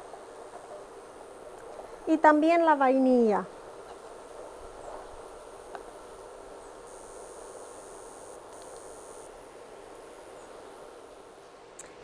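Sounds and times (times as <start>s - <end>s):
high insect buzz: 0.0s - 11.6s
faint background hiss: 0.0s - 12.0s.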